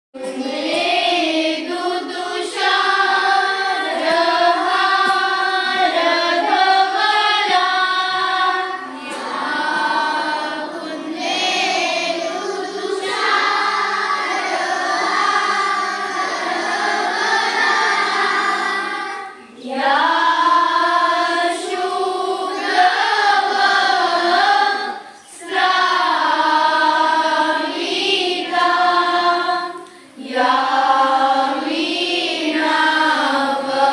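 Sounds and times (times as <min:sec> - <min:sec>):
group of voices singing: 0:00.2 - 0:33.9.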